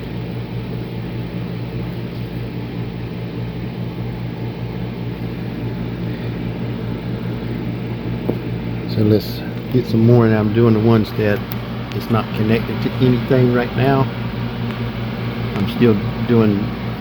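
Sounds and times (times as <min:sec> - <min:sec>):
cooling fans humming: 0:00.0 - 0:17.0.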